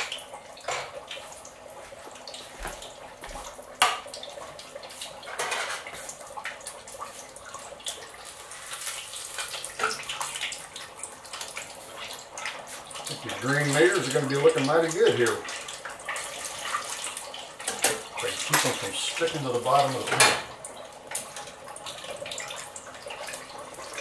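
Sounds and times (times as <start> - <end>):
hot oil sizzling in a fryer: 0.0 - 24.0.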